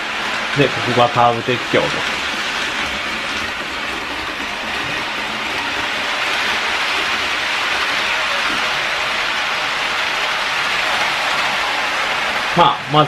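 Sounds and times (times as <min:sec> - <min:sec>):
model train rattling on track: 0:00.0 - 0:13.0.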